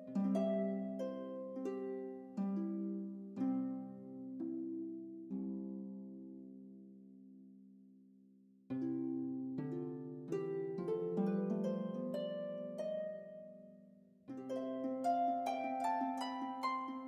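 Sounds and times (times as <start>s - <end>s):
gentle plucked string melody: 0.0s - 7.4s, 8.7s - 17.0s.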